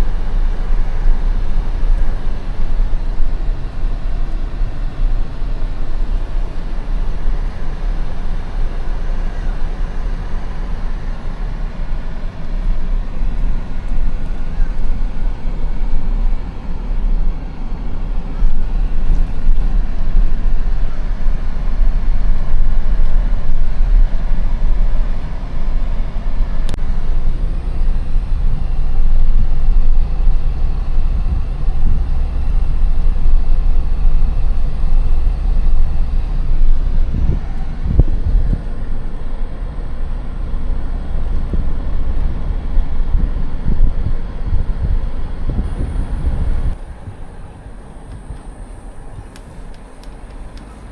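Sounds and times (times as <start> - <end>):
vehicle road and engine rumble: 0.0 - 50.9.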